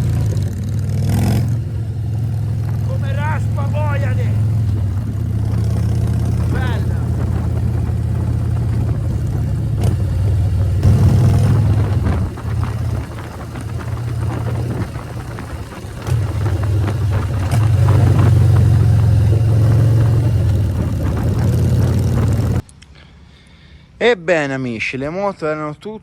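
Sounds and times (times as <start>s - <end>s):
motorcycle engine running: 0.0s - 22.6s.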